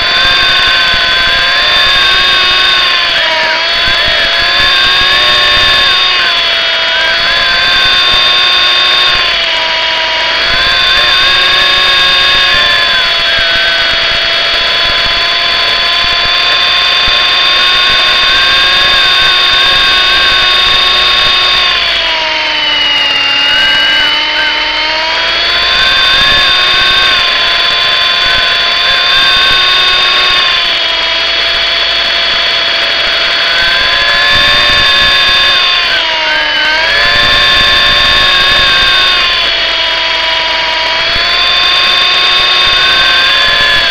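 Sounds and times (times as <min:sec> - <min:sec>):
toy helicopter motor whine: 0:00.0 - 0:43.9.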